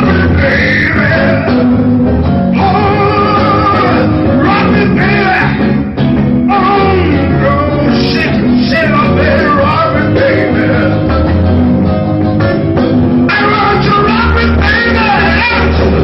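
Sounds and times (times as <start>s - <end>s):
man singing into a microphone: 0.0s - 1.8s, 2.5s - 11.2s, 13.3s - 16.0s
electric guitar: 0.0s - 16.0s.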